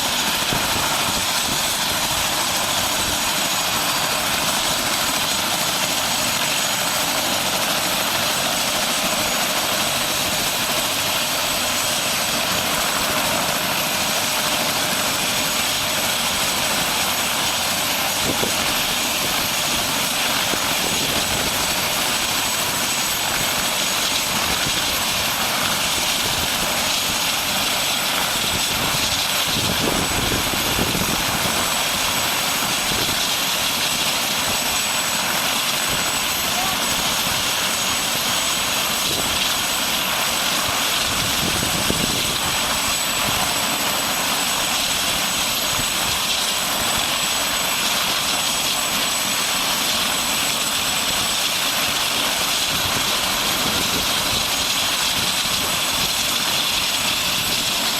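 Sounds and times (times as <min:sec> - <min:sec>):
helicopter engine and rotor: 0:00.0 - 0:57.9.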